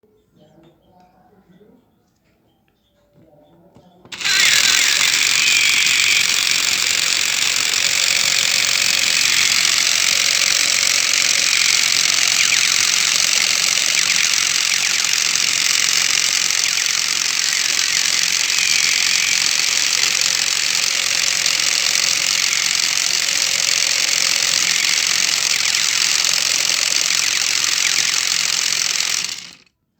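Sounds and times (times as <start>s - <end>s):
toy pistol rapid rattle: 4.1s - 29.7s.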